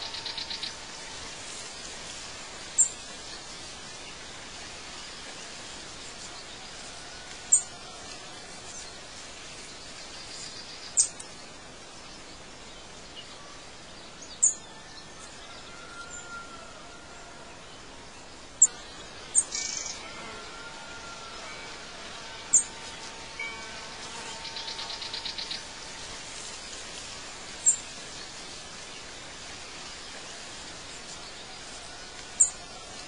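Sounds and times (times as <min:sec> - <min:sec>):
outdoor hiss: 0:00.0 - 0:33.0.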